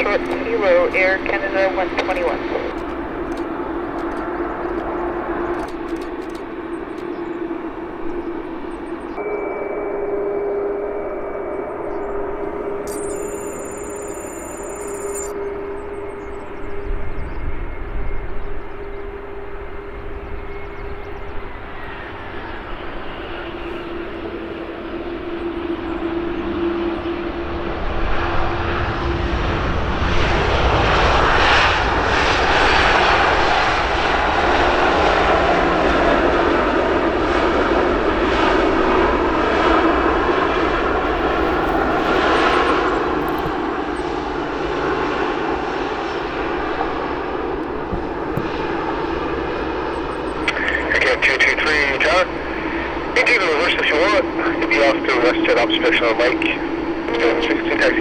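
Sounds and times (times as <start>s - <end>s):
jet airliner engines passing: 0.0s - 58.0s.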